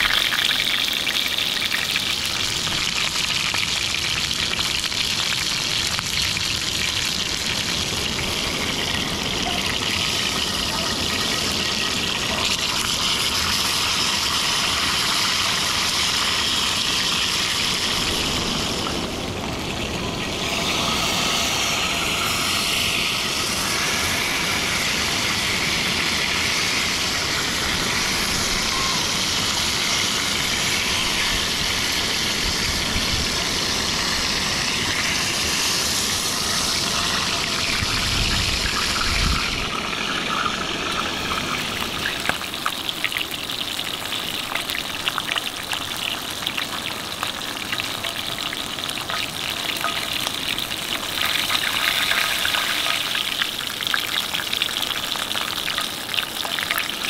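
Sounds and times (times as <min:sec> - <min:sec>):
fish sizzling in oil: 0:00.0 - 0:57.0.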